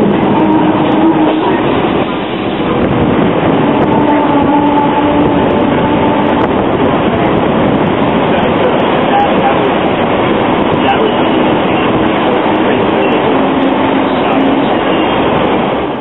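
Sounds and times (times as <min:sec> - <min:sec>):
tram wheels rumbling: 0:00.0 - 0:16.0.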